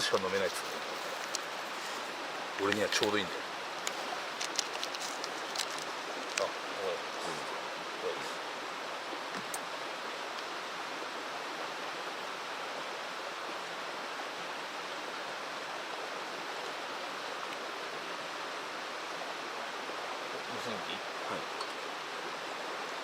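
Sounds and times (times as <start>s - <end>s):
mountain stream rushing: 0.0s - 23.0s.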